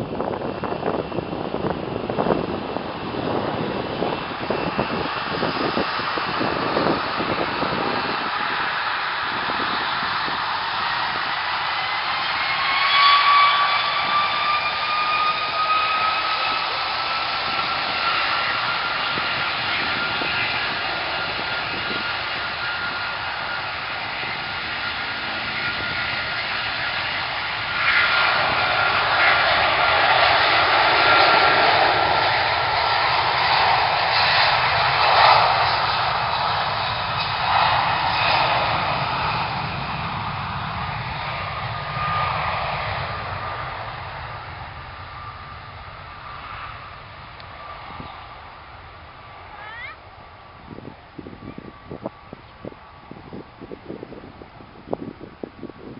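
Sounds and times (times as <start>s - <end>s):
jet engines whining: 0.0s - 55.9s
rushing jet noise: 0.0s - 55.9s.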